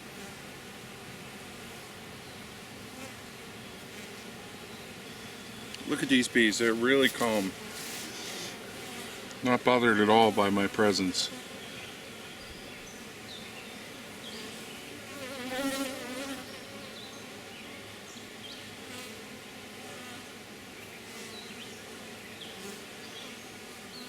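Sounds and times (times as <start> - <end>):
bee buzzing close by: 0.0 - 24.0
bees humming around hive: 0.0 - 24.0.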